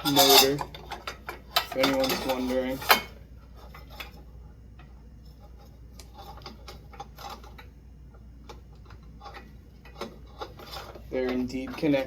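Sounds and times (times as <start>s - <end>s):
faint steady hum: 0.0s - 12.0s
small clicks of handling parts: 0.4s - 12.0s.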